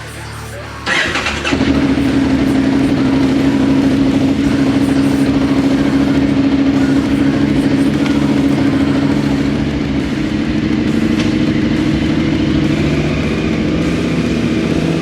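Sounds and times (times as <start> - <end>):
motorcycle engine running: 0.0 - 15.0
motorcycle engine starting: 0.0 - 15.0.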